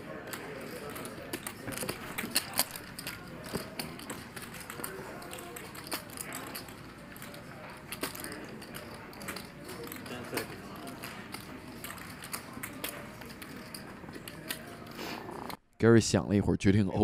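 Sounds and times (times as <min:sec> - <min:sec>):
poker chips clicking: 0:00.1 - 0:15.6.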